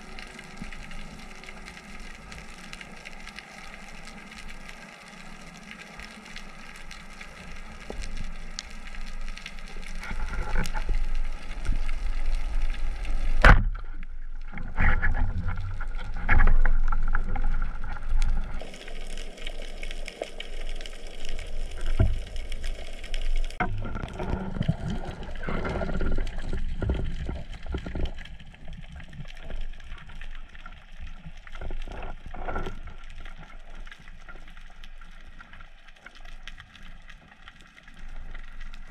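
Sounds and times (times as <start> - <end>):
water moving and gurgling underwater: 0.0 - 38.9.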